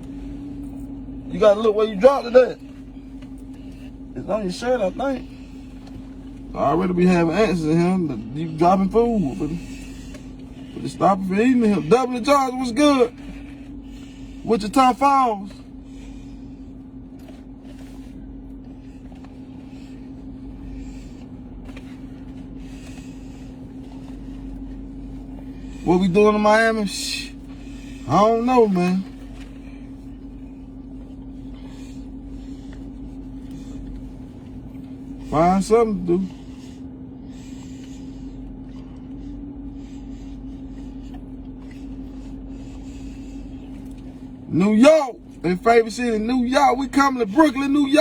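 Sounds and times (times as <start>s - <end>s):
car cabin hum: 0.0s - 48.0s.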